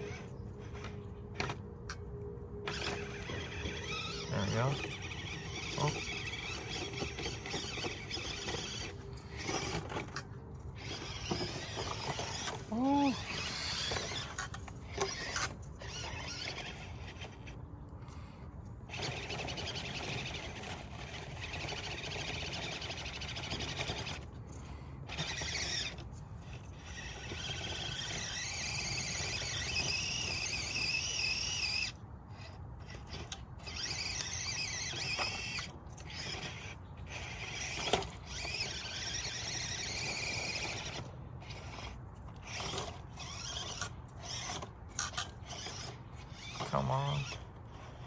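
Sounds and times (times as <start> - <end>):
small electric motor whining: 0.0 - 48.0.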